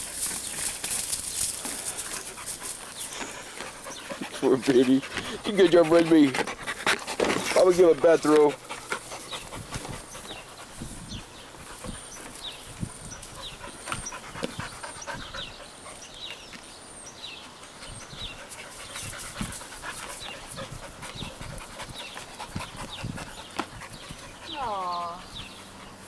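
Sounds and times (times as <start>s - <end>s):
dog panting: 0.0s - 16.5s, 17.4s - 26.0s.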